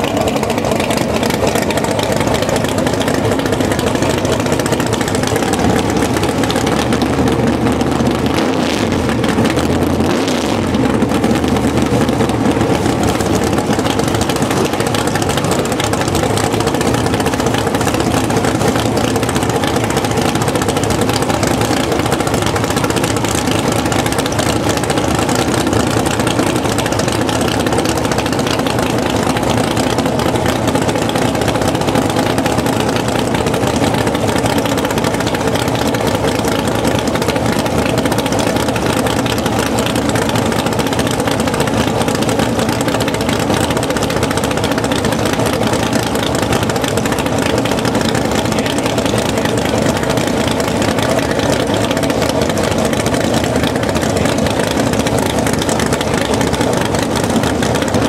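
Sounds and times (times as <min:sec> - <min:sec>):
drag car engines idling loudly: 0:00.0 - 0:58.0.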